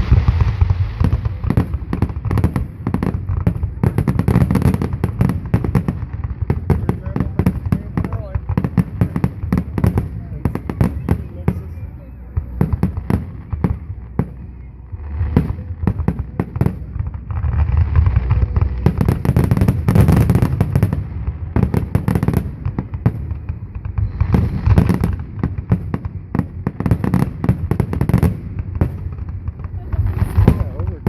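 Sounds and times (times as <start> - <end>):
fireworks bangs and crackles: 0.0 - 31.0
low rumble: 0.0 - 31.0.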